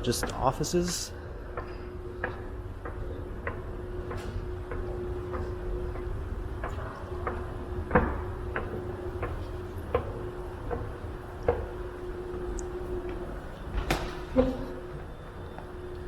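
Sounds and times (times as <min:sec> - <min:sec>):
steady low tonal hum: 0:00.0 - 0:16.0.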